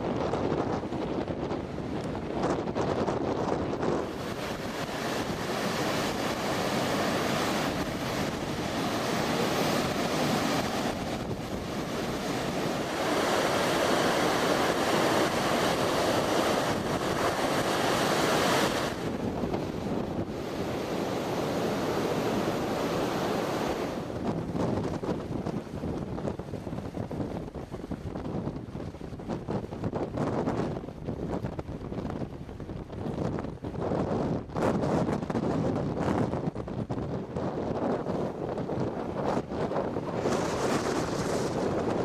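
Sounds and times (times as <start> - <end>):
storm surf breaking: 0.0 - 42.0
wind blowing across microphone: 0.0 - 42.0.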